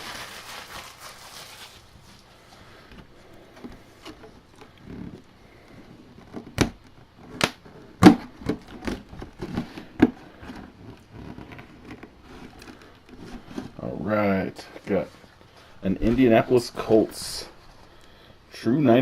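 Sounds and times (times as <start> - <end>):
soft rustling: 0.0 - 7.9, 9.0 - 18.2.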